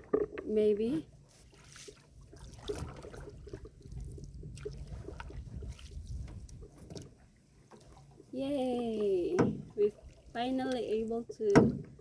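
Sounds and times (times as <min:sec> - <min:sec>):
paddles dipping in water: 0:00.0 - 0:12.0.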